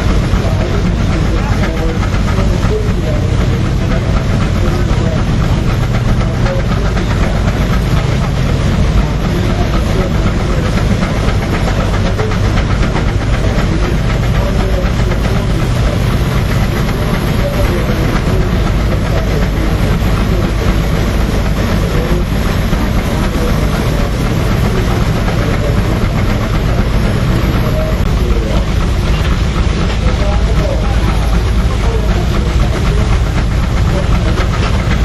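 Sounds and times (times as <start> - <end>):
low hum: 0.0 - 35.0
mechanical clatter: 0.0 - 35.0
steam hissing: 0.0 - 35.0.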